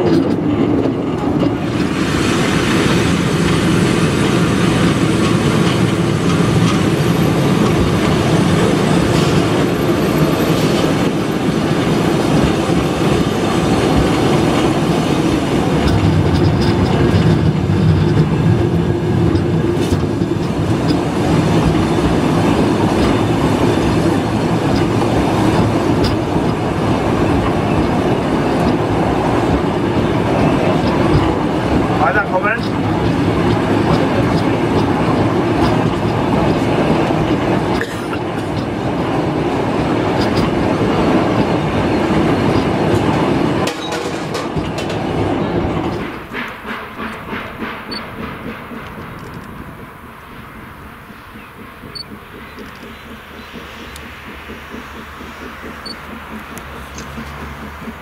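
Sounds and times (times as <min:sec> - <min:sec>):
track clatter: 0:00.0 - 0:58.0
train wheels rumbling on rails: 0:00.0 - 0:58.0.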